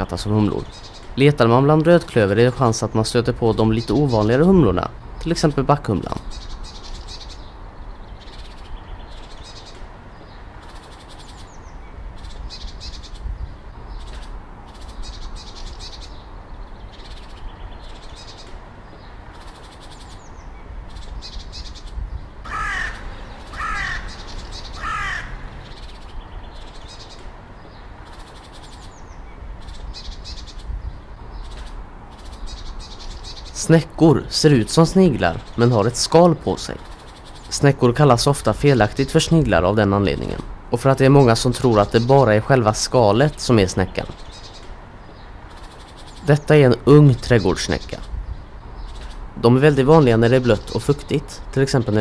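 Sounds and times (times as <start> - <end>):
loud bird calls: 0.0 - 52.0
low wind rumble: 0.0 - 52.0.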